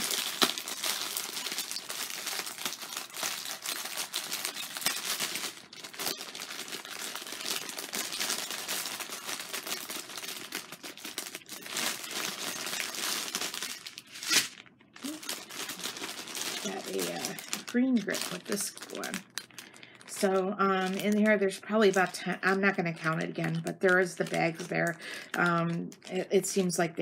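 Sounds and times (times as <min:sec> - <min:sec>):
plastic packaging crinkling: 0:00.0 - 0:26.8.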